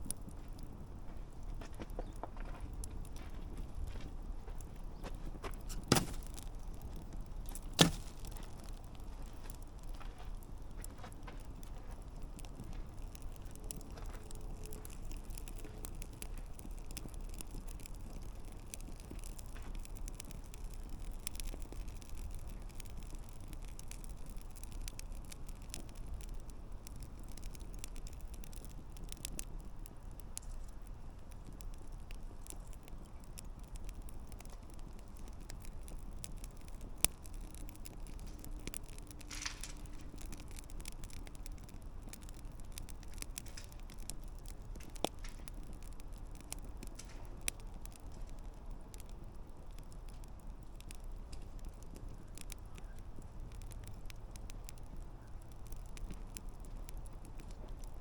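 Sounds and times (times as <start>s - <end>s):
campfire crackling: 0.0s - 58.0s
fire popping loudly: 0.0s - 58.0s.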